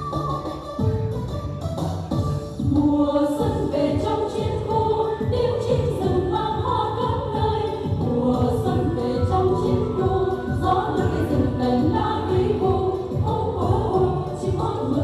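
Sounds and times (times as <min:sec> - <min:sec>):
rhythmic instrumental accompaniment: 0:00.0 - 0:15.0
women singing into microphones: 0:02.6 - 0:15.0.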